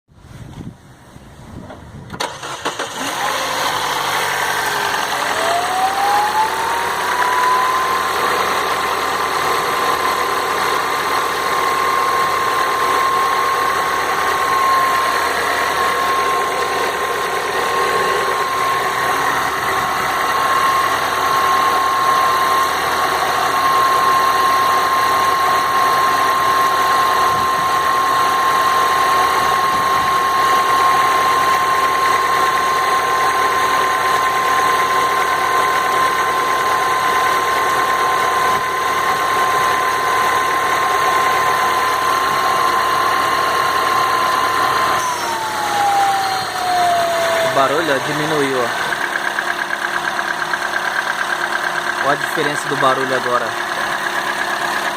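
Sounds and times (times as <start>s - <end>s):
car engine idling with clatter: 0.4s - 54.9s
rising whine: 2.9s - 51.3s.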